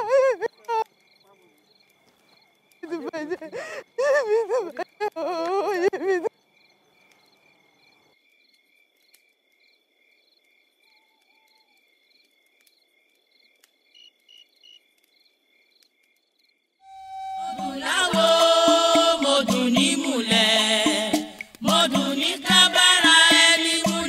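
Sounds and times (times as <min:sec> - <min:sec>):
crickets chirping: 0:00.0 - 0:20.4.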